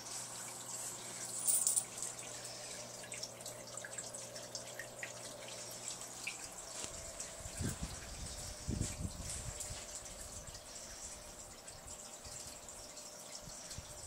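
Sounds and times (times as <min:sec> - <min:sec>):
aquarium water trickling: 0:00.0 - 0:14.0
small drip ticks: 0:00.0 - 0:14.0.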